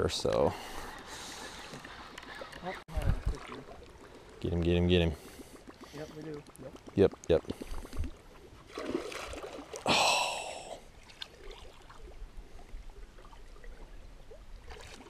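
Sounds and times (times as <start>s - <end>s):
water splashing: 0.6s - 12.2s, 13.0s - 15.0s.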